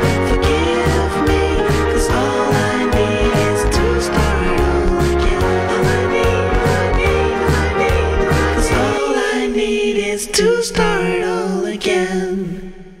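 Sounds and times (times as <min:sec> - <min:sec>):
pop music with singing: 0:00.0 - 0:12.6.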